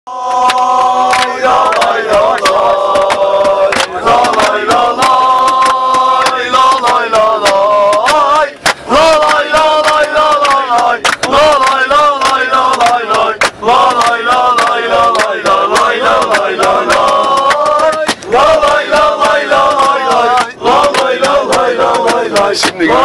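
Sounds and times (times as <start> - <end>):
crowd of men chanting: 0.1 - 23.0
loud sharp beats: 0.4 - 23.0.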